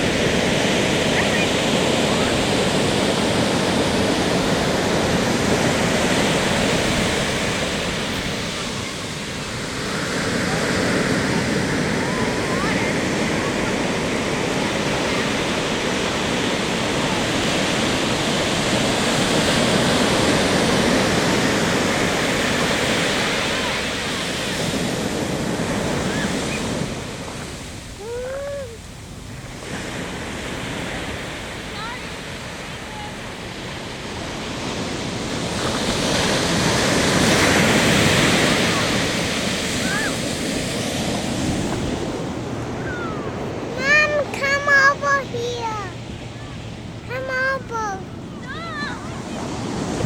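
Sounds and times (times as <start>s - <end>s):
ocean waves breaking on beach: 0.0s - 50.0s.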